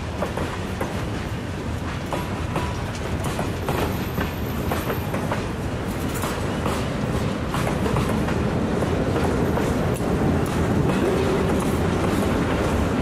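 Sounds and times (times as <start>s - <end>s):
freight train rumbling: 0.0s - 13.0s
wheels clacking over rail joints: 0.0s - 13.0s.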